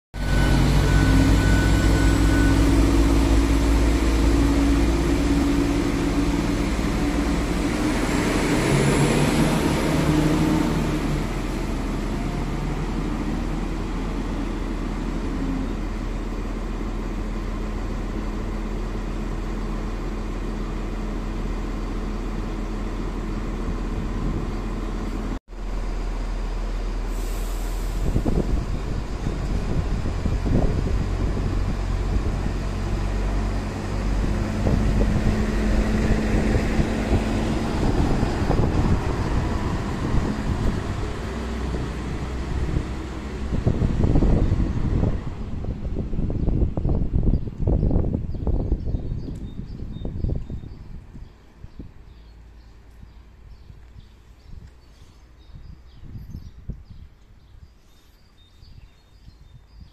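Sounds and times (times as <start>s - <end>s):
diesel railcar rumble: 0.1s - 59.9s
diesel railcar engines running: 0.2s - 59.9s.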